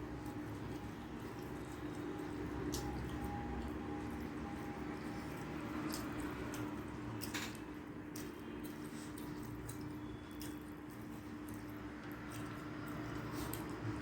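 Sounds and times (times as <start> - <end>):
chewing and mouth smacks: 0.0 - 14.0.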